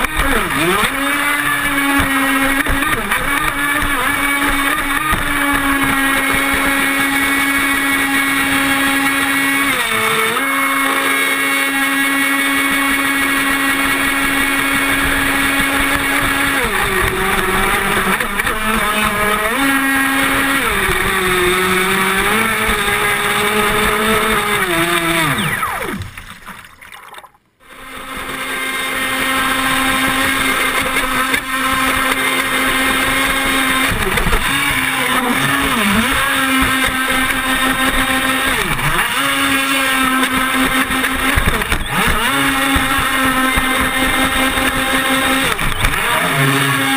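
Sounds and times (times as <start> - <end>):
boat motor running: 0.0 - 26.7, 27.6 - 46.9.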